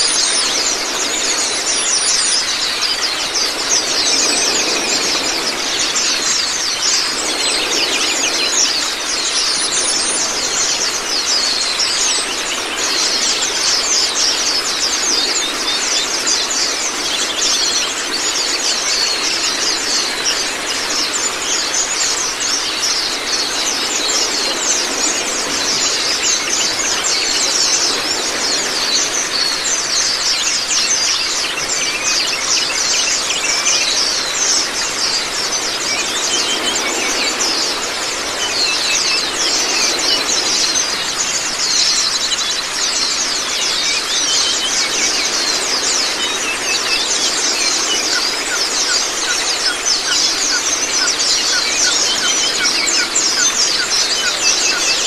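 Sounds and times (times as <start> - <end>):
birds twittering: 0.0 - 55.0
running water: 0.0 - 55.0.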